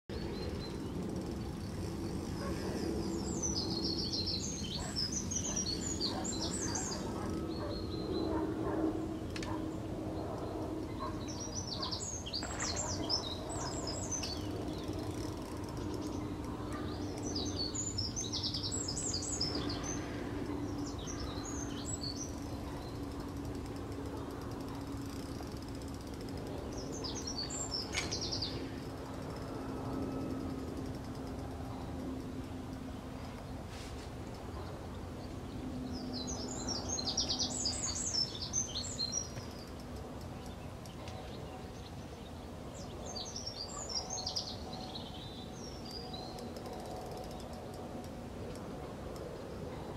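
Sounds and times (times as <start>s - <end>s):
faint constant hum: 0.1s - 49.9s
songbirds chirping: 0.1s - 49.9s.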